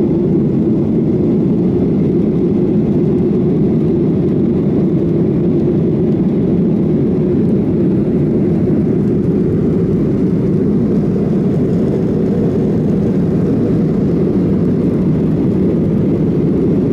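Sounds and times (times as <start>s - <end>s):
jet engine low rumble: 0.0s - 16.9s.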